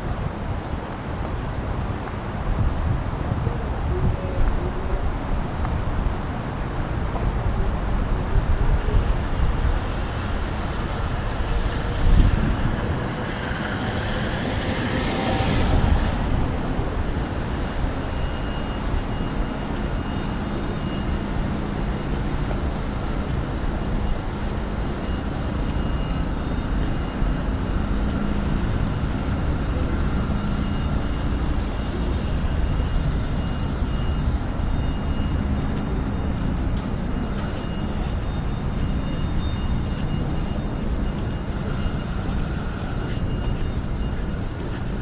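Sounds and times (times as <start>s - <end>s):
city traffic rumble: 0.0s - 45.0s.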